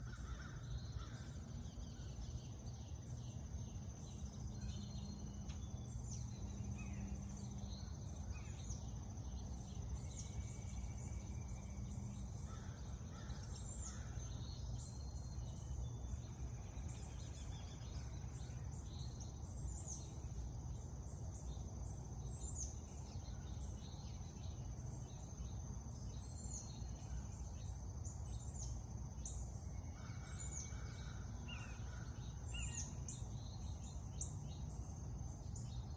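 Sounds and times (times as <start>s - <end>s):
songbirds chirping: 0.0s - 35.9s.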